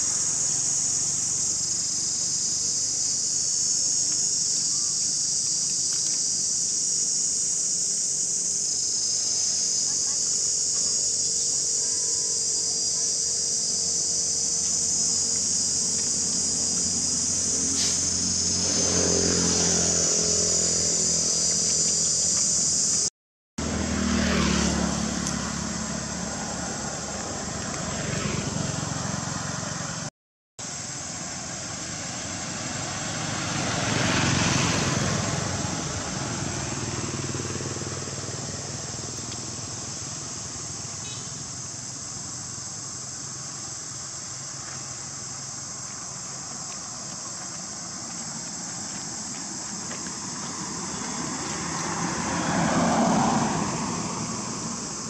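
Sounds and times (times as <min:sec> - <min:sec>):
high insect drone: 0:00.0 - 0:55.0
vehicles passing: 0:00.0 - 0:55.0.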